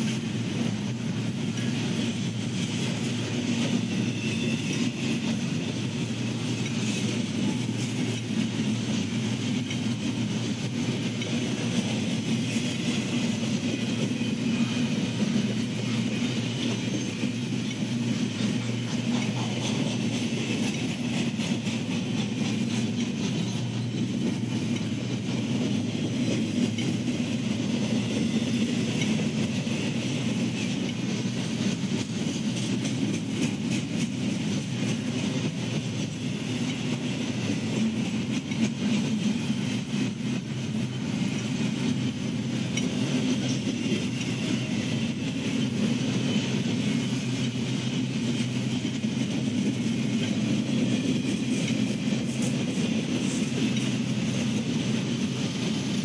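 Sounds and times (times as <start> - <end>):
rail clicks: 0.0 - 56.0
train wheels rumbling on rails: 0.0 - 56.0.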